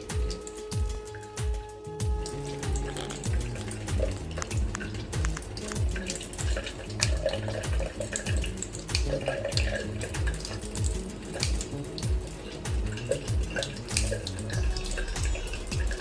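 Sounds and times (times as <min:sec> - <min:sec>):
music with steady beat: 0:00.0 - 0:16.0
water running into sink: 0:02.0 - 0:16.0.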